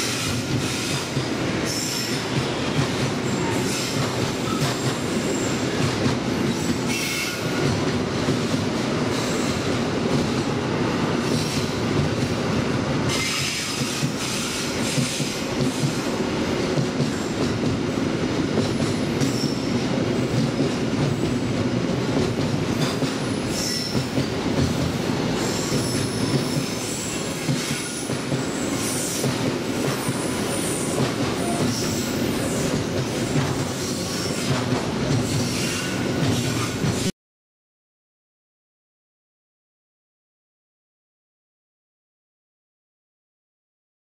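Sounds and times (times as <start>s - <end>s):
freight train rolling on rails: 0.0s - 37.1s.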